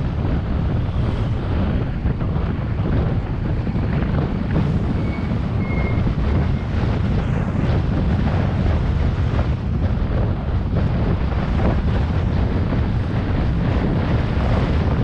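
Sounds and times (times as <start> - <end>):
moving vehicle travel noise: 0.0 - 15.0
wind buffeting microphone: 0.0 - 15.0.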